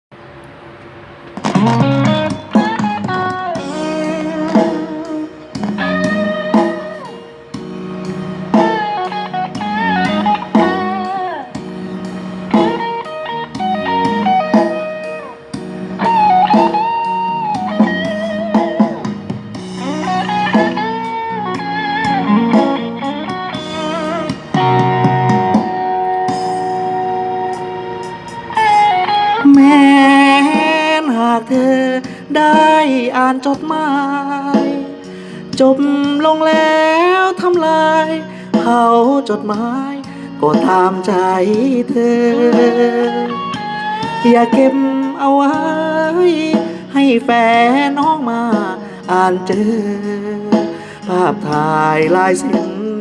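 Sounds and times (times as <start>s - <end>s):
band backing: 0.2s - 53.0s
lead guitar with bent notes: 0.9s - 53.0s.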